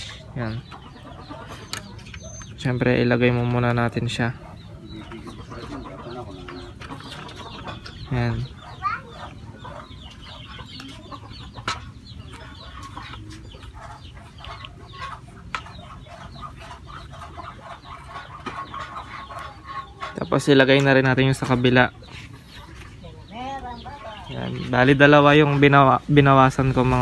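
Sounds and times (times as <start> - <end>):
birds chirping and clucking: 0.0 - 27.0.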